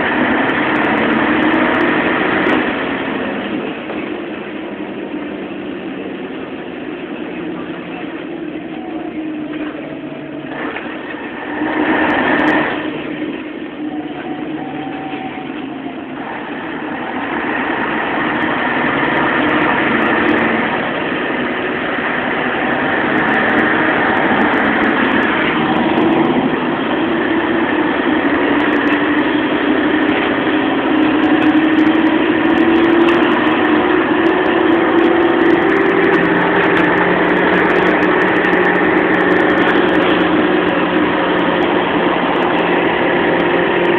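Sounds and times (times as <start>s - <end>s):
bus diesel engine running: 0.0s - 43.9s.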